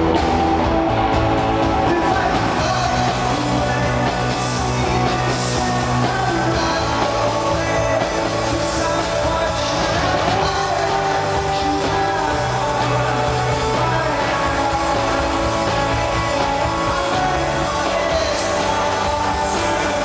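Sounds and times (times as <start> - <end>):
rock band playing live: 0.0 - 20.0
person singing lead vocal: 1.4 - 20.0.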